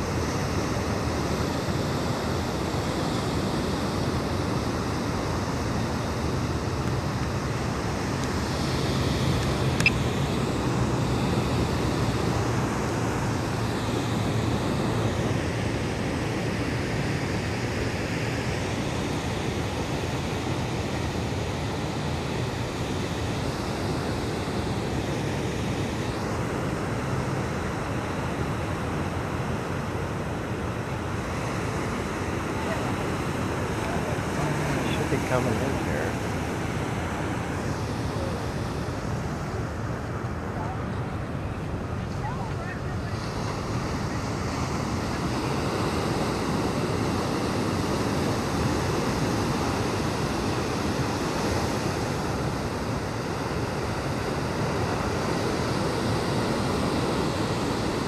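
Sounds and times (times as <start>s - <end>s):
ocean surf: 0.0s - 58.0s
wind: 0.0s - 58.0s.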